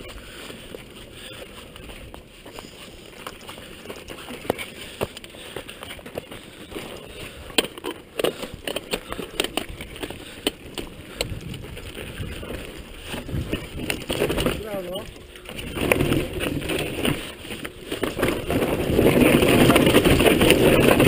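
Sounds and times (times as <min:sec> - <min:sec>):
bike clattering over rough ground: 0:00.0 - 0:21.0
bike tyre noise on dirt: 0:00.0 - 0:21.0.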